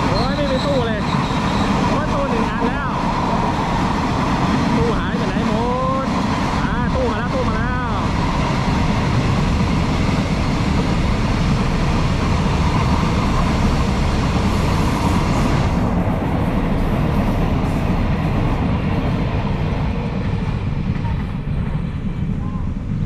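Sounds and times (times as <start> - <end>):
freight train rolling on rails: 0.0 - 23.0.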